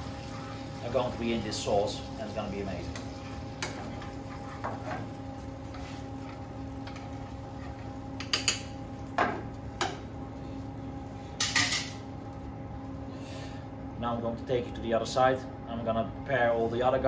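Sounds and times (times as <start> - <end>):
kitchen ventilation hum: 0.0 - 17.0.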